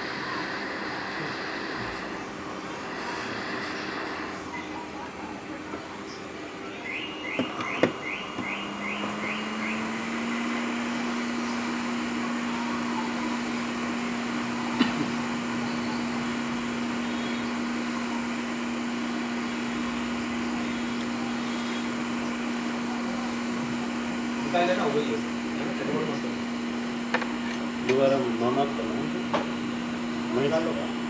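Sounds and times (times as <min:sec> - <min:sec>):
hot air station fan hum: 0:00.0 - 0:31.0.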